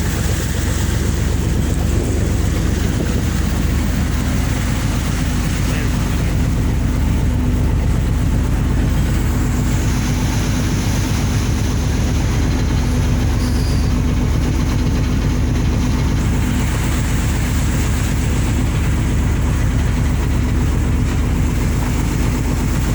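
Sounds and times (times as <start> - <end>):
ship engine droning: 0.0 - 22.9.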